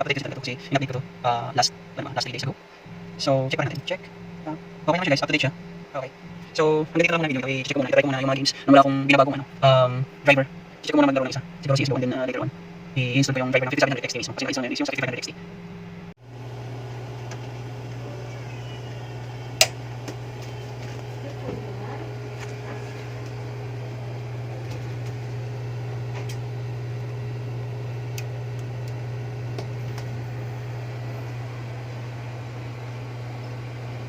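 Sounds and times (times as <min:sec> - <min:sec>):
fans humming: 0:00.0 - 0:34.0.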